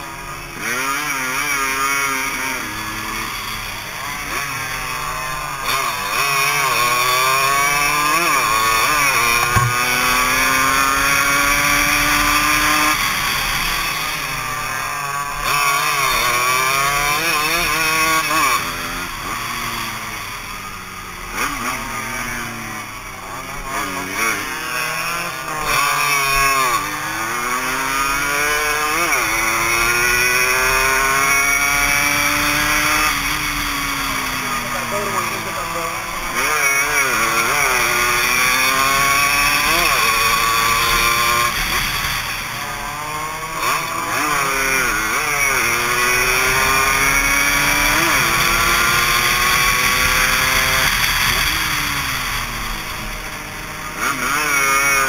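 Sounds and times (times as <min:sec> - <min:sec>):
motorcycle engine at full throttle: 0:00.0 - 0:55.0.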